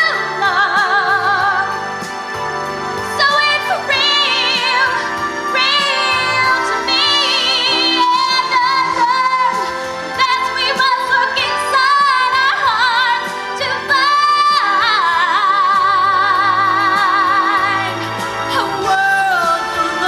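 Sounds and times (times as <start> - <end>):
instrumental accompaniment: 0.0 - 20.0
women singing with vibrato: 0.0 - 20.0.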